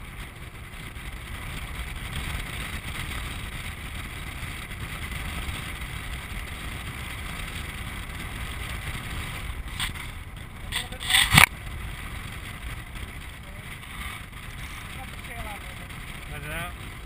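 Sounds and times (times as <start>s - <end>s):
wheels rolling rumble: 0.0s - 17.0s.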